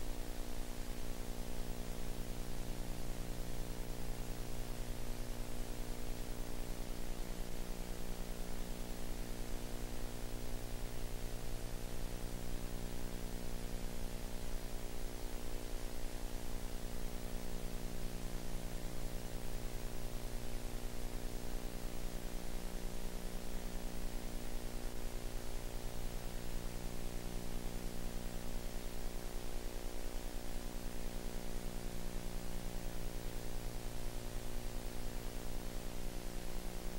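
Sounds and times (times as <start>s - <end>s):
electrical hum and buzz: 0.0s - 36.9s.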